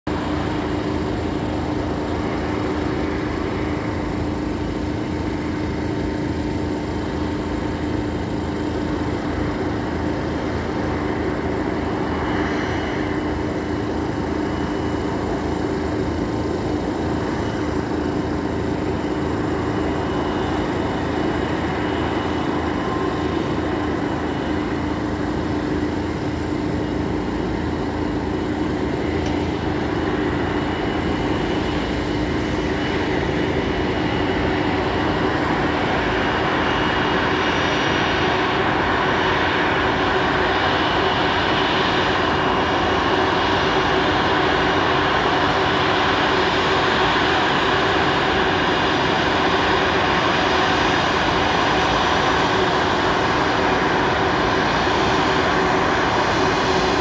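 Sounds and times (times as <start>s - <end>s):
engine idling drone: 0.0s - 57.0s
faint high whine: 0.1s - 57.0s.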